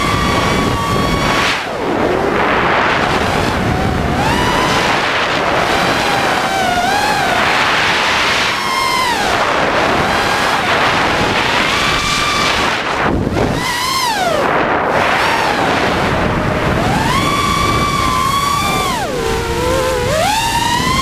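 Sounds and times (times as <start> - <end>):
drone motors whining: 0.0 - 21.0
wind on microphone: 0.0 - 21.0.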